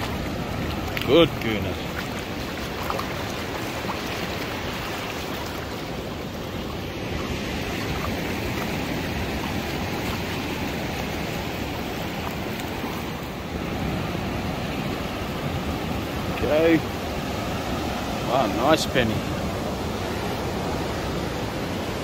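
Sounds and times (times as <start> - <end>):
small waves washing over sand: 0.0 - 22.0.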